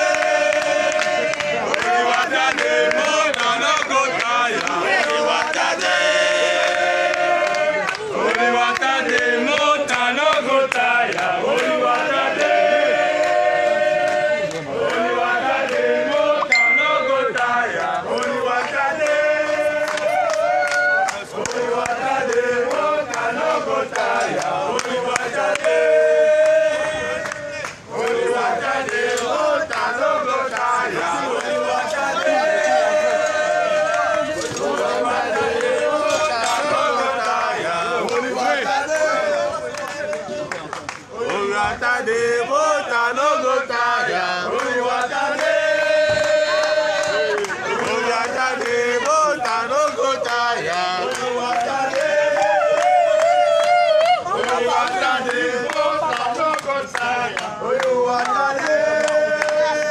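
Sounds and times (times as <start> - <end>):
crowd chanting and singing: 0.0 - 59.9.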